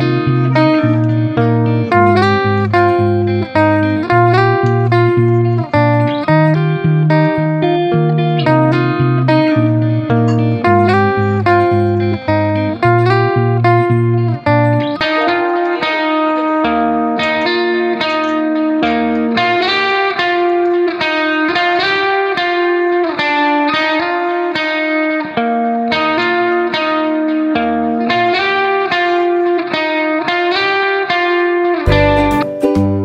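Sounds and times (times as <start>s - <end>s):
plucked guitar over sustained chords: 0.0s - 33.0s.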